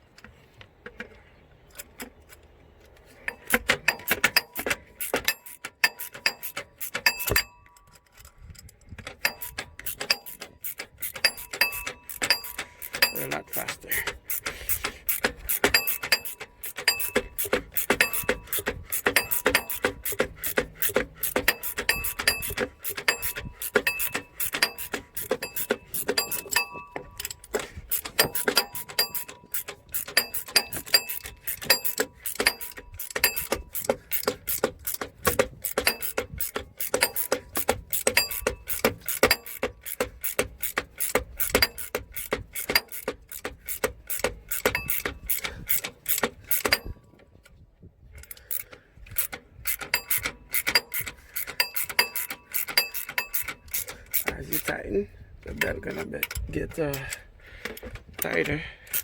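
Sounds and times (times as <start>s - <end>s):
ratcheting wrench clicking: 3.2s - 59.0s.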